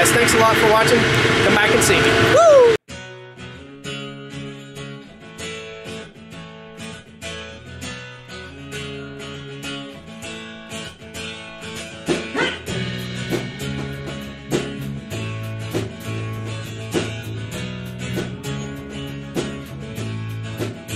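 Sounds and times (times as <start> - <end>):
strummed acoustic guitar: 2.9 - 20.9.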